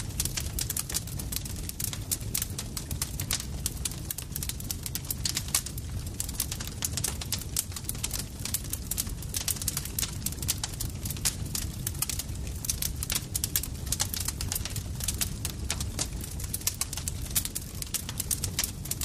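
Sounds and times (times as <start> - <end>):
campfire crackling: 0.0 - 19.0
low rumble of flames: 0.0 - 19.0.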